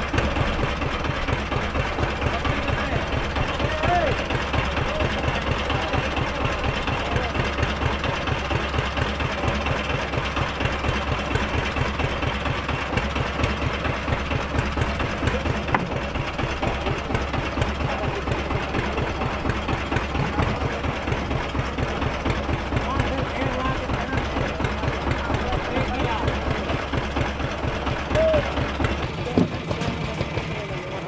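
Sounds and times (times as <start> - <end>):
engine idling with knocking: 0.0 - 31.0.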